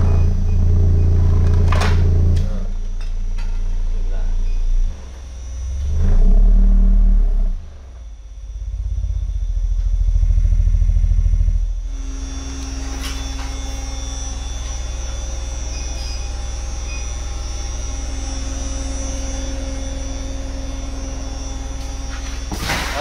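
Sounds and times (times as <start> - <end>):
subwoofers playing deep bass tone: 0.0 - 23.0.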